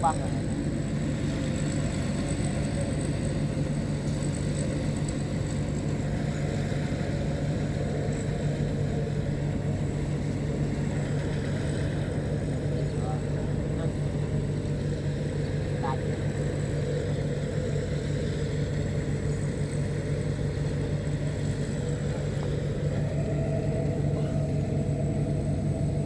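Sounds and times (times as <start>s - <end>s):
harvester engine droning: 0.0s - 26.0s.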